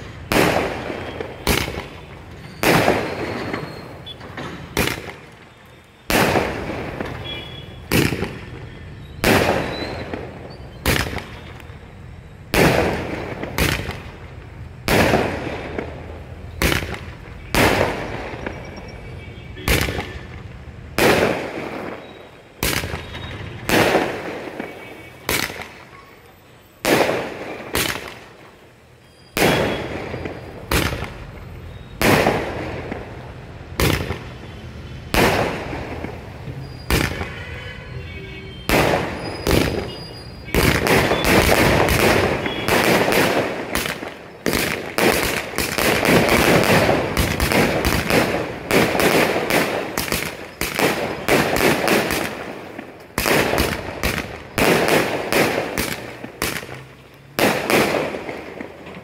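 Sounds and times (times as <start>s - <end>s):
firework crackle: 0.0s - 37.7s, 38.4s - 59.0s.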